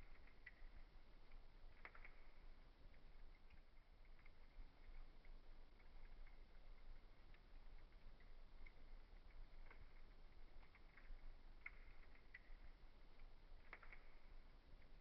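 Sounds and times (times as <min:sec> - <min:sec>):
soft steady hiss: 0:00.0 - 0:15.0
wood fire crackling: 0:00.0 - 0:15.0.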